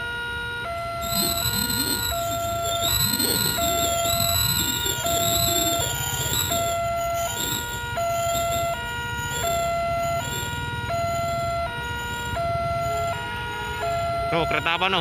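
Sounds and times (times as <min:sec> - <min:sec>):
two-tone crossing warning alarm: 0:00.0 - 0:15.0.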